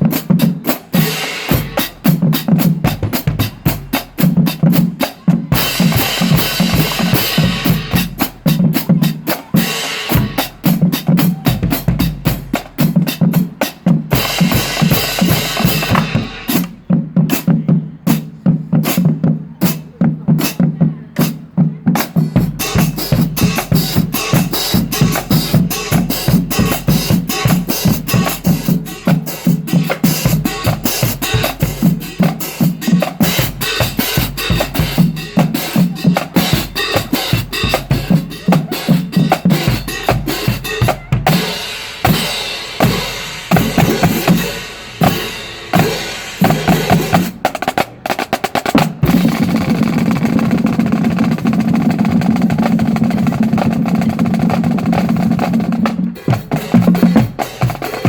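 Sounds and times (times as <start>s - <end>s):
marching drum line cadence: 0.0s - 58.0s.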